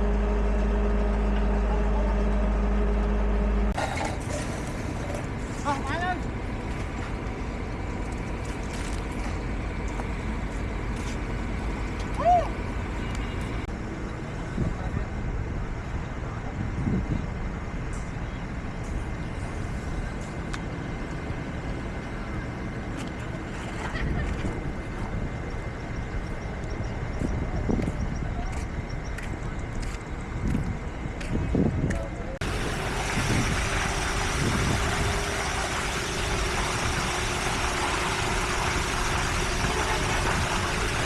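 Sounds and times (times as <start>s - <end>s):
diesel machinery rumbling: 0.0s - 41.0s.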